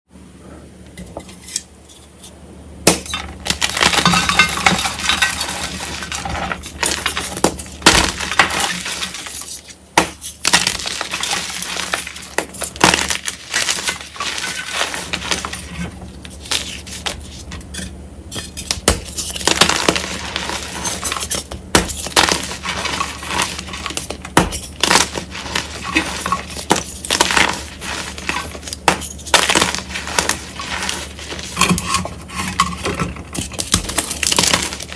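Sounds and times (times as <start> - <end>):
chalk crunching and crumbling: 3.4 - 17.7, 18.3 - 34.9.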